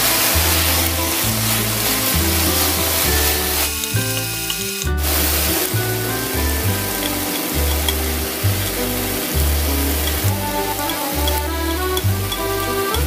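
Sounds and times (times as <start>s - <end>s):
background music: 0.0s - 13.0s
fish skins sizzling in a pan: 0.0s - 13.0s.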